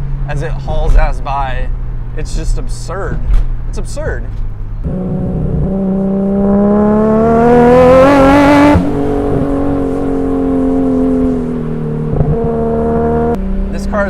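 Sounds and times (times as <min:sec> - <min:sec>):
car engine revving: 0:01.6 - 0:14.0.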